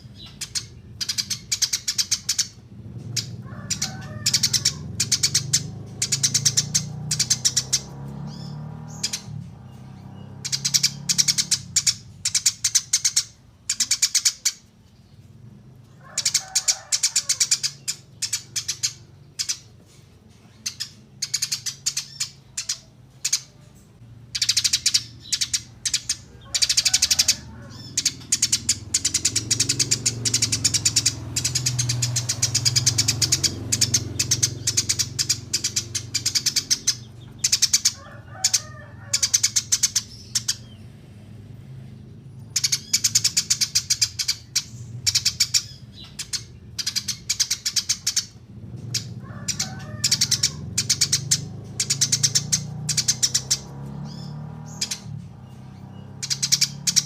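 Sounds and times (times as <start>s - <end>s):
songbird buzzy trills: 0.0s - 57.0s.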